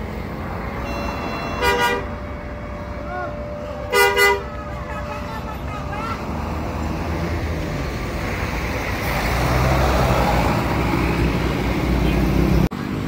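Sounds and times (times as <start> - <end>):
bus engine and tyre noise: 0.0 - 13.0.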